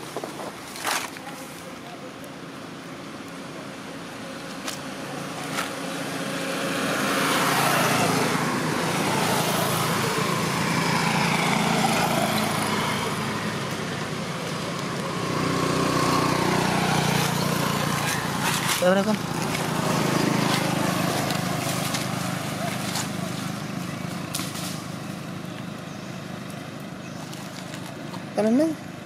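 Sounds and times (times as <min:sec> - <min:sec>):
passing traffic: 0:00.0 - 0:29.0
motorcycle engine passing: 0:04.8 - 0:29.0.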